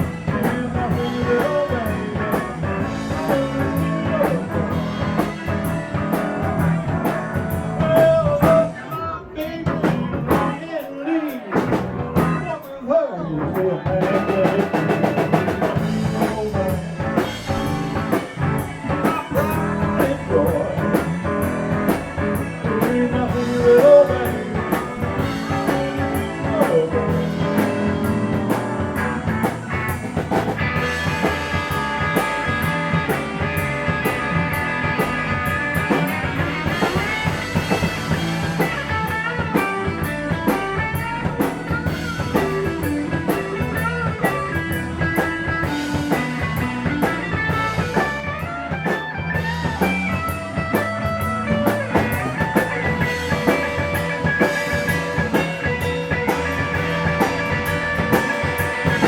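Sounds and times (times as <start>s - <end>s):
bass guitar: 0.0s - 59.0s
electric guitar lead: 0.0s - 59.0s.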